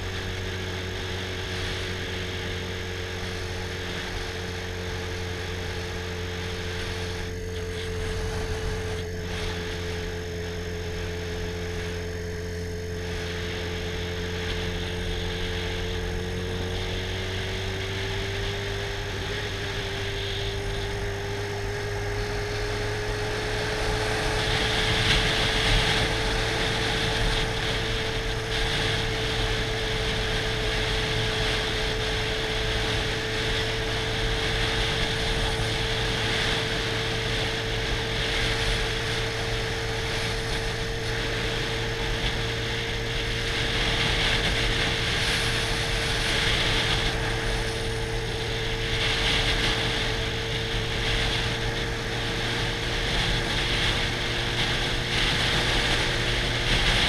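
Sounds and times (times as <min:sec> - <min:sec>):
motorcycle engine cruising: 0:00.0 - 0:57.0
wind rushing over microphone: 0:00.0 - 0:57.0.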